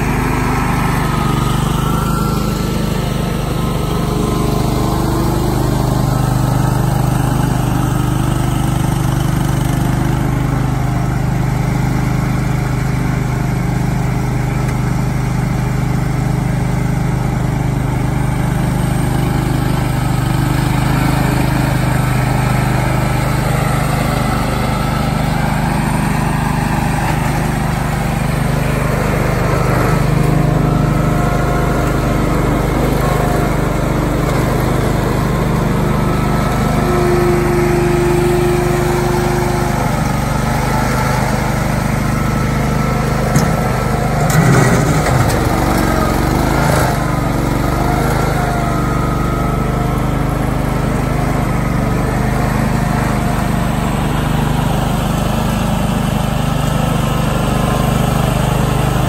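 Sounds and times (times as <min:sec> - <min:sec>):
garden tractor engine running: 0:00.0 - 0:59.0.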